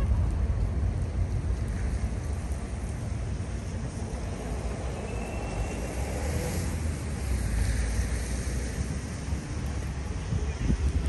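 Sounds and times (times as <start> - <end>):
low rumble of road traffic: 0.0 - 11.0
vehicle passing: 1.3 - 10.8.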